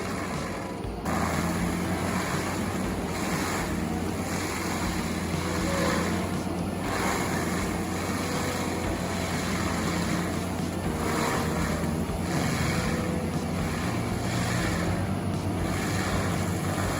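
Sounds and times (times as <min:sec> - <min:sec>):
even rushing noise: 0:00.0 - 0:16.9
heavy machinery engine hum: 0:00.0 - 0:16.9.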